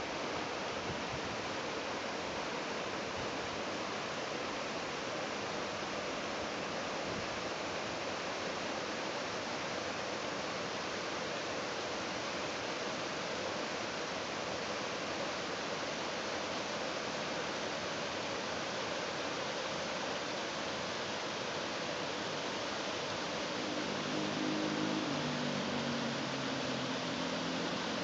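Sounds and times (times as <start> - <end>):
creek water rushing over stones: 0.0 - 28.0.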